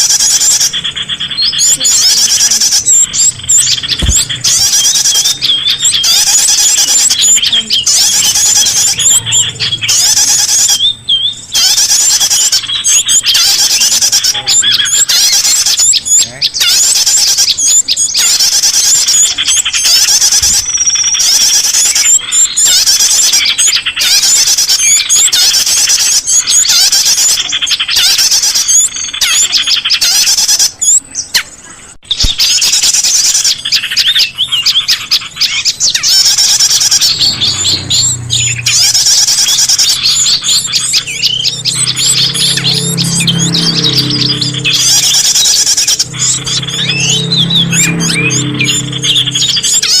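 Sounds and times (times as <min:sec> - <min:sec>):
small birds chirping and twittering: 0:00.0 - 0:50.0.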